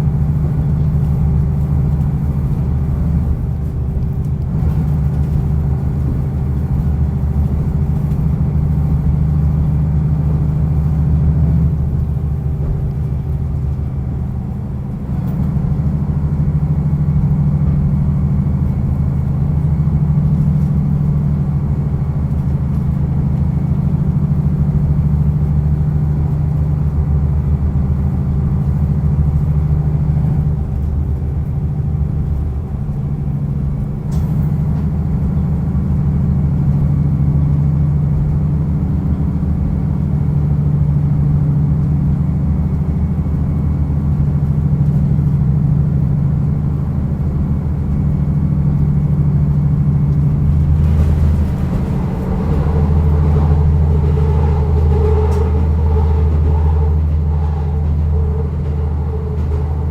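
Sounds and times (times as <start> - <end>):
diesel engine drone: 0.0 - 59.9
rail rumble: 0.0 - 59.9.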